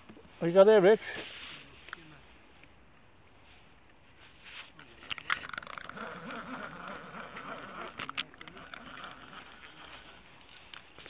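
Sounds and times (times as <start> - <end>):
light steady hiss: 0.0 - 11.0.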